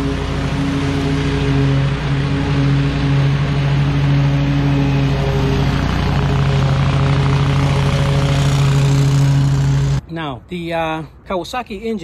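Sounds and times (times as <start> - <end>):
mower engine humming: 0.0 - 10.0.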